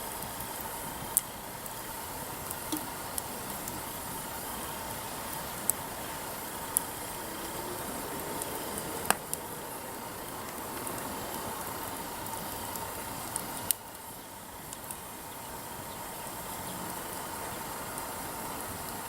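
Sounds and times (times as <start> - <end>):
campfire crackling pops: 0.0 - 19.0
campfire hissing: 0.0 - 19.0.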